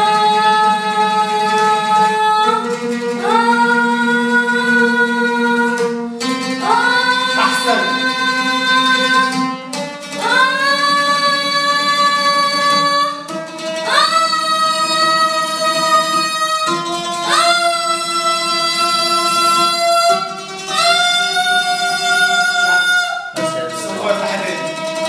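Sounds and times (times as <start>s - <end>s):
oud playing: 0.0s - 25.0s.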